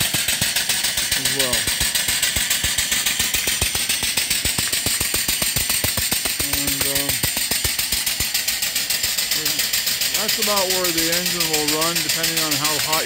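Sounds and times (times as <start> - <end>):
exhaust steam hiss: 0.0 - 13.0
steam engine beating: 0.0 - 13.0.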